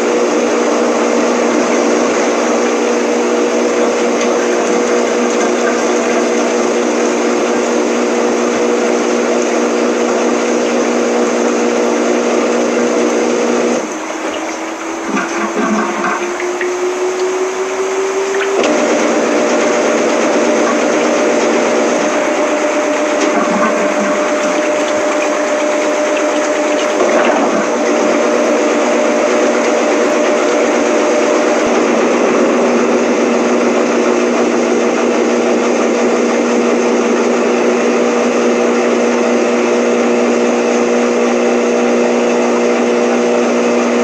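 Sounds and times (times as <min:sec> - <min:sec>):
washing machine running: 0:00.0 - 0:44.0.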